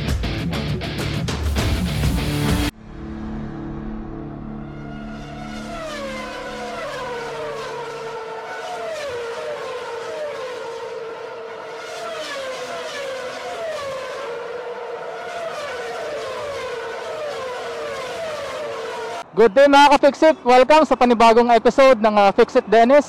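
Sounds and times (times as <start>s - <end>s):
high-pitched engine whine: 1.6s - 21.1s.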